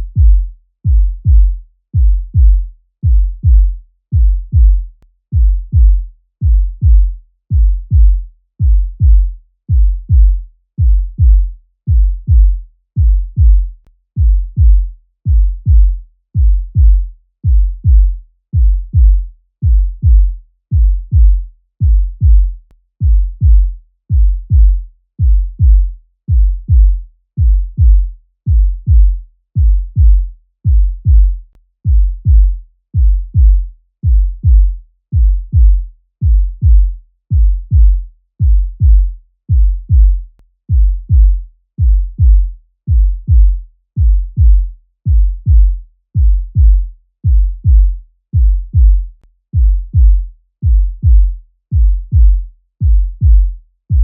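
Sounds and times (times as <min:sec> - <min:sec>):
heartbeat thumps: 0:00.0 - 0:54.0.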